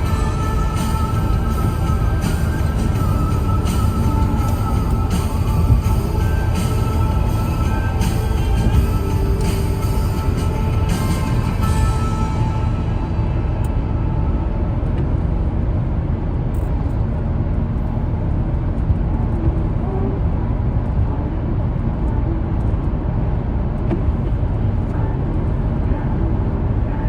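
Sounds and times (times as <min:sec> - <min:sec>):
car driving on wet road: 0:00.0 - 0:27.0.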